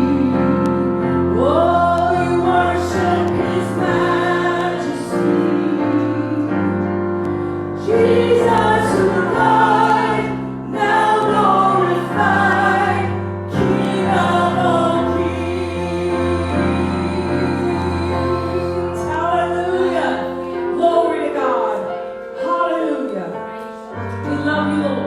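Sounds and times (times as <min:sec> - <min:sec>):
voices singing together: 0:00.0 - 0:22.5.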